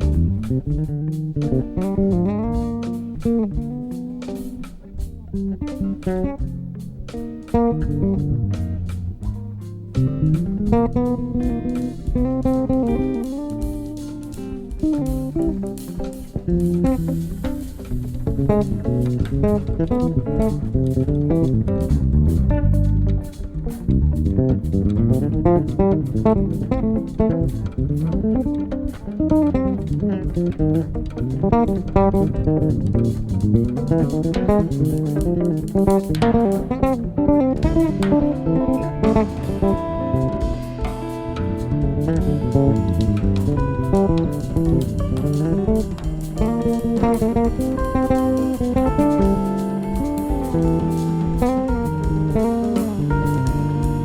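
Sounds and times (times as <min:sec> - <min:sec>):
bass: 0:00.0 - 0:54.0
drum kit: 0:00.0 - 0:54.0
guitar melodic runs: 0:00.0 - 0:54.0.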